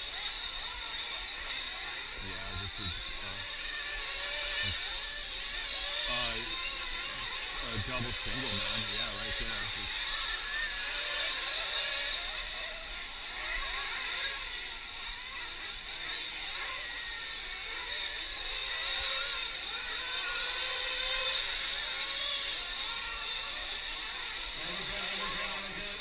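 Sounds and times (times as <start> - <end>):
rc truck engines whining: 0.0 - 26.0.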